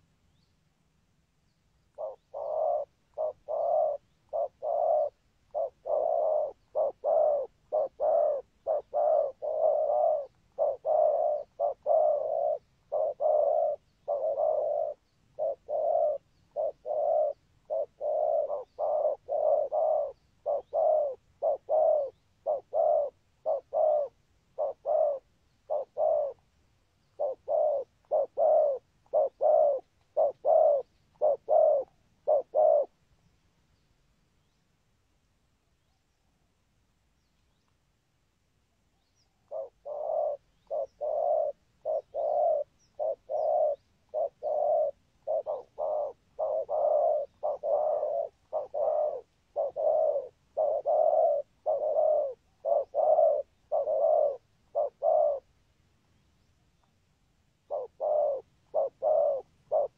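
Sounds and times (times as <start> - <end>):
dove cooing: 1.9 - 33.0, 39.4 - 55.6, 57.6 - 59.9.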